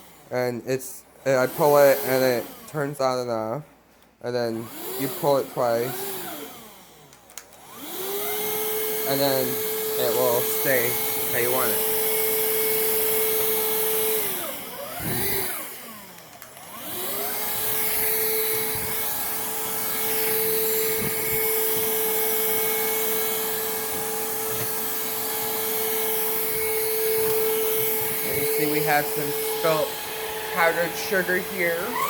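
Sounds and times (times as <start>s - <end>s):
stick vacuum motor whine: 1.2s - 3.0s, 4.4s - 32.0s.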